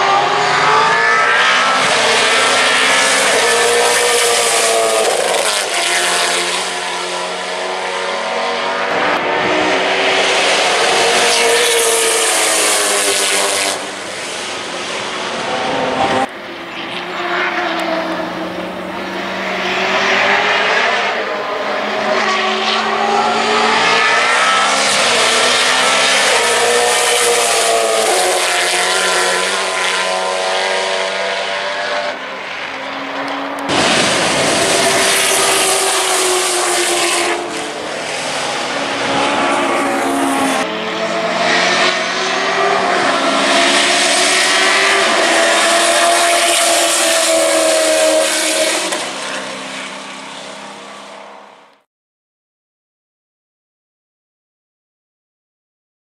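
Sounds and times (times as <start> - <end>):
loud racing car engine revving: 0.0 - 51.6.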